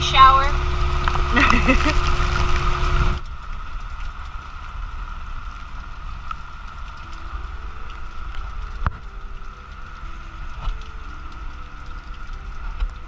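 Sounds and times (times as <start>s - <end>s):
rain drops ticking: 0.0s - 13.0s
wind and rain hiss: 0.0s - 13.0s.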